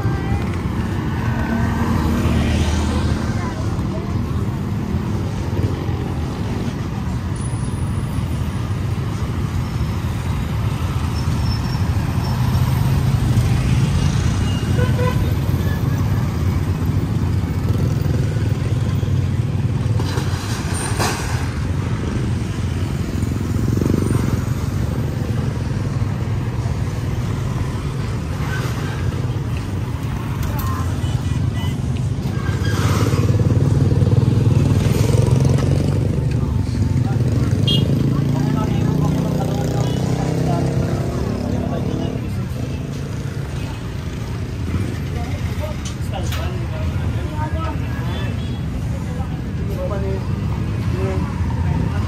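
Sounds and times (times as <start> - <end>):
traffic rumble: 0.0 - 52.0.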